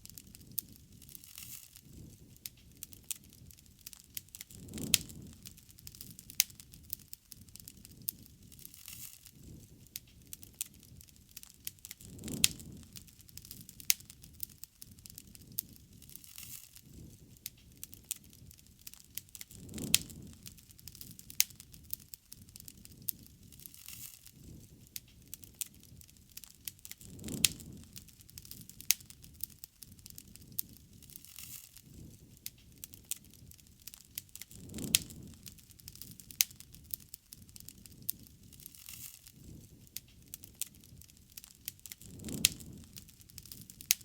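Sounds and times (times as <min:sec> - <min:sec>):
bonfire crackling: 0:00.0 - 0:44.0
fire rushing: 0:00.0 - 0:44.0.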